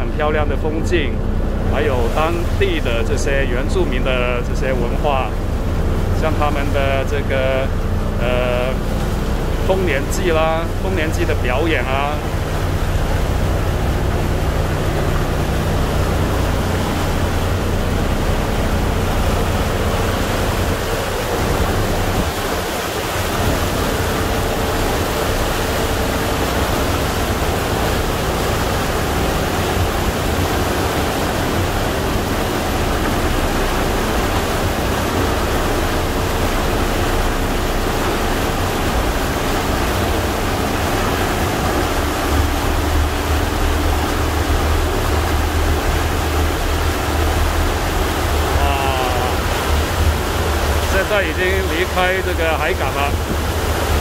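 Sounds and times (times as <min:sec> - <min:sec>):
ferry engine hum: 0:00.0 - 0:54.0
water rushing: 0:00.0 - 0:54.0.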